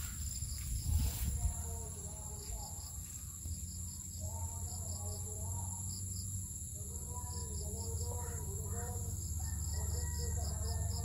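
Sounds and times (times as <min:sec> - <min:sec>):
insects singing: 0:00.0 - 0:11.0.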